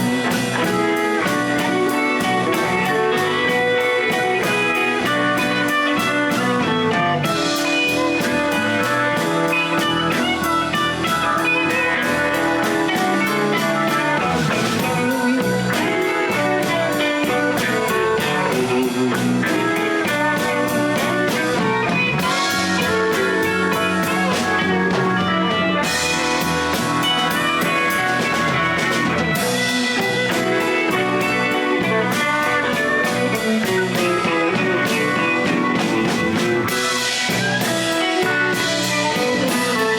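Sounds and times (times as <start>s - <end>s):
blues band jamming: 0.0s - 39.9s
drum kit: 0.0s - 39.9s
electric guitar lines: 0.0s - 39.9s.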